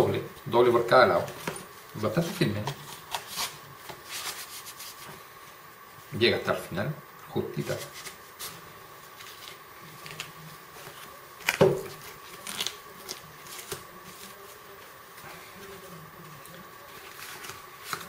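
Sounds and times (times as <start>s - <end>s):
faint high hum: 0.0s - 18.0s.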